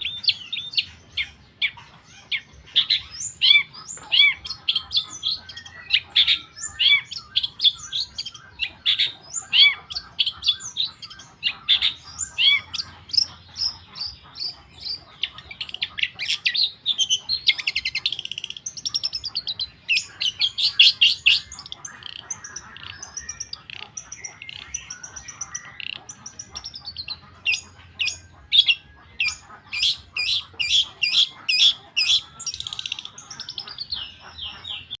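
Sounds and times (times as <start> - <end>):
shrike singing chirps and whistles: 0.0 - 35.0.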